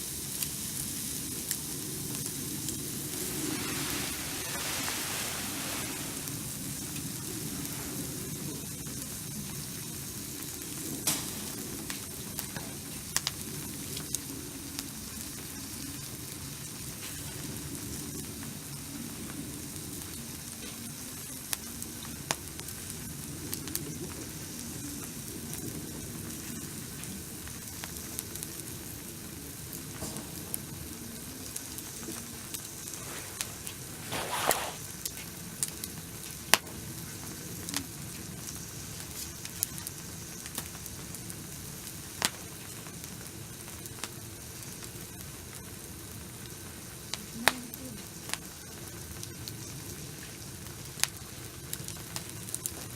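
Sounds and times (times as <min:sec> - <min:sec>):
fire popping and crackling: 0:00.0 - 0:52.9
food sizzling on grill: 0:00.0 - 0:52.9.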